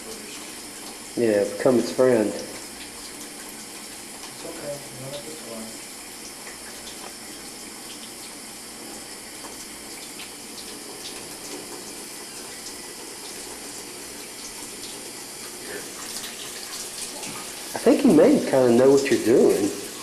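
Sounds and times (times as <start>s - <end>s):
tap water running: 0.0s - 20.0s.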